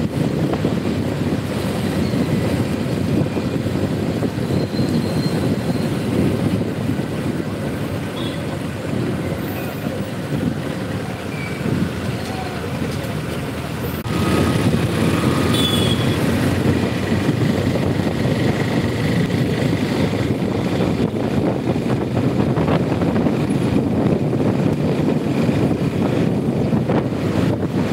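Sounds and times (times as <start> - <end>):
wind buffeting microphone: 0.0 - 12.9, 14.0 - 27.9
road noise rumble: 0.0 - 27.9.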